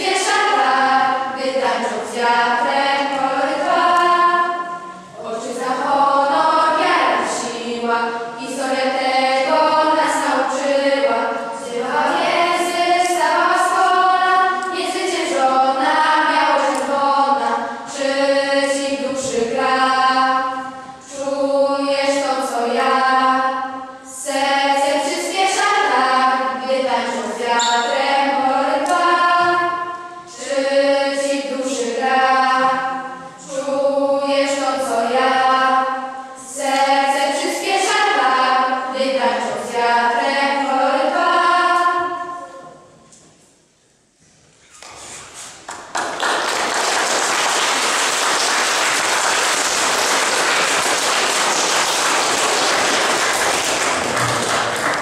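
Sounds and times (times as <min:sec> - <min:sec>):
girls choir singing: 0:00.0 - 0:43.3, 0:45.7 - 0:55.0.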